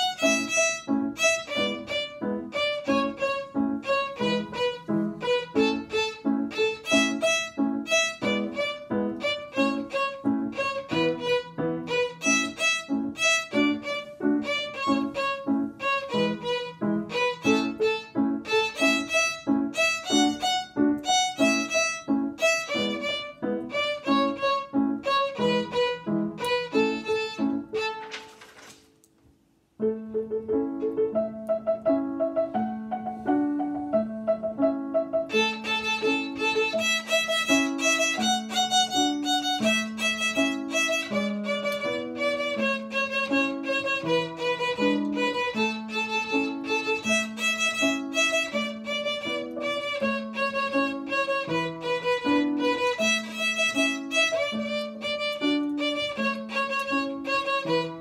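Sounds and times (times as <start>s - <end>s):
violin playing: 0.0s - 28.3s, 31.9s - 58.0s.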